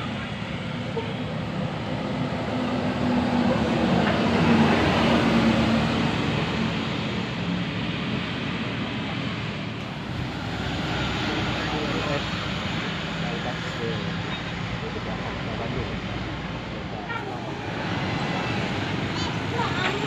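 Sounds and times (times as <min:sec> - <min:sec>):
bus engine passing by: 0:00.0 - 0:20.0.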